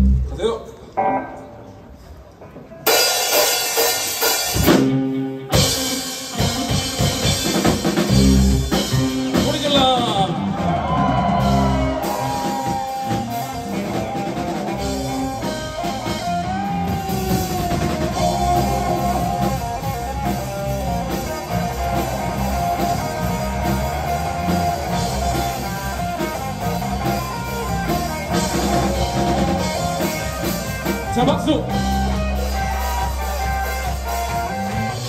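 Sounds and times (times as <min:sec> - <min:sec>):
bass guitar: 0:00.0 - 0:01.8, 0:02.9 - 0:35.0
electric guitars melody: 0:00.0 - 0:35.0
drum kit: 0:02.8 - 0:35.0.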